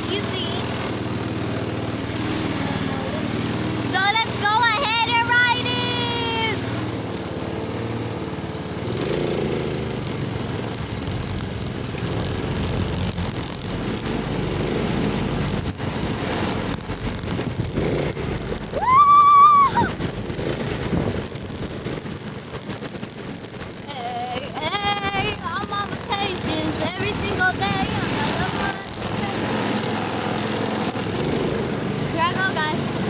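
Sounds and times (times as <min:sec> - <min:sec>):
cart body rattling: 0:00.0 - 0:33.0
golf cart running: 0:00.0 - 0:33.0.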